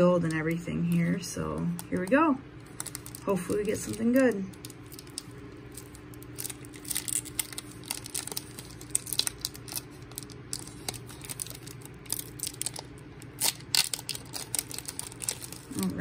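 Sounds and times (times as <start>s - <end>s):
foil wrapper crinkling and tearing: 1.8s - 16.0s.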